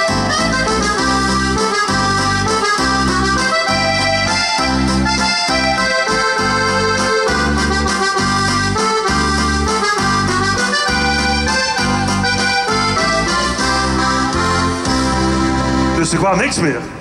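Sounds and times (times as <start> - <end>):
upbeat folk music instrumental: 0.0 - 16.7.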